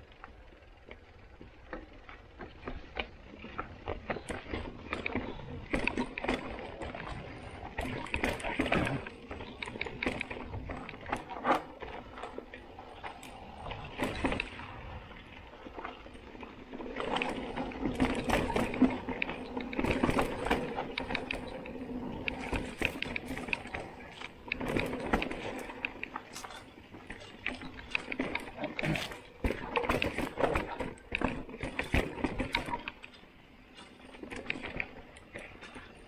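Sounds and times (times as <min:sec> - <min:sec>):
bike tyres on dirt: 0:00.0 - 0:36.0
bike rattling and knocking: 0:00.1 - 0:36.0.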